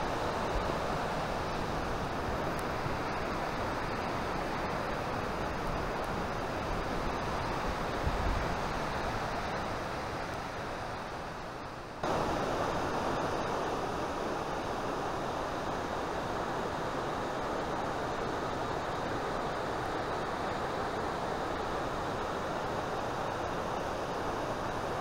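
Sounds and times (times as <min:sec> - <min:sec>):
river whitewater rushing: 0:00.0 - 0:25.0.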